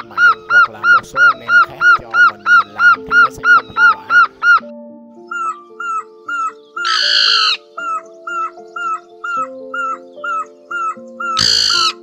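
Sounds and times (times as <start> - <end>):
barbet calls: 0.0 - 4.7, 5.3 - 12.0
background music: 0.0 - 12.0.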